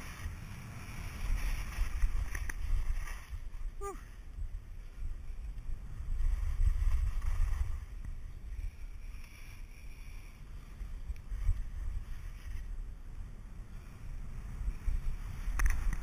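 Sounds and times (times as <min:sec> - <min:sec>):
skis hissing over snow: 0:00.0 - 0:16.0
wind buffeting microphone: 0:00.0 - 0:16.0.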